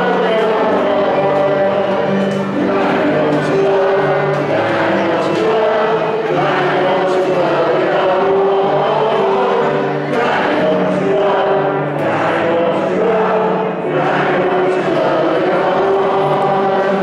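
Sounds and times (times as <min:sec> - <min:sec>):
crowd singing along: 0:00.0 - 0:17.0.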